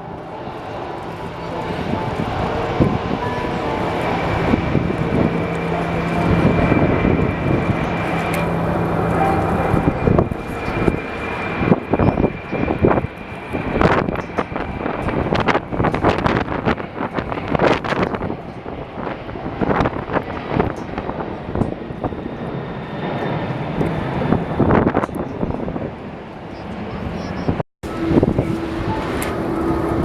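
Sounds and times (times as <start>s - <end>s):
jet engines running: 0.0s - 30.0s
wind buffeting microphone: 0.0s - 30.0s.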